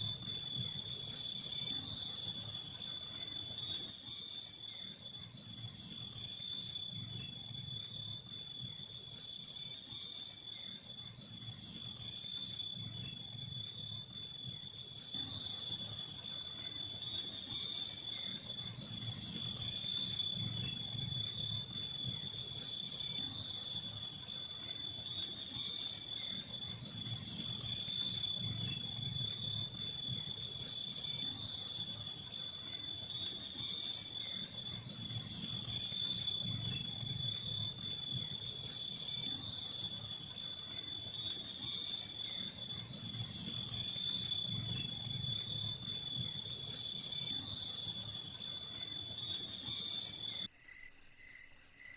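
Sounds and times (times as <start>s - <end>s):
crickets and night insects trilling: 0.0s - 51.9s.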